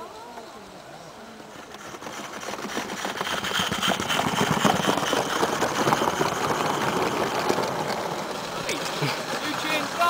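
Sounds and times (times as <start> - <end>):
wheels clattering on track: 0.2 - 10.0
steam locomotive chuffing: 1.3 - 10.0
steam hissing: 1.4 - 10.0.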